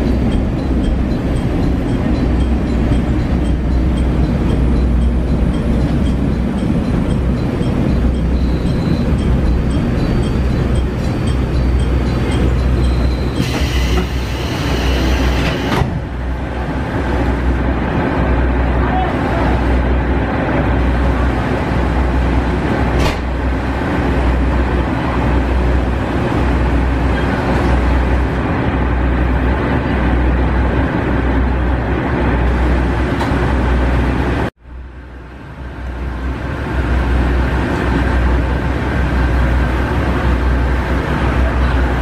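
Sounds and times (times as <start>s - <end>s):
diesel engine droning: 0.0s - 42.0s
railcar running noise: 0.0s - 42.0s.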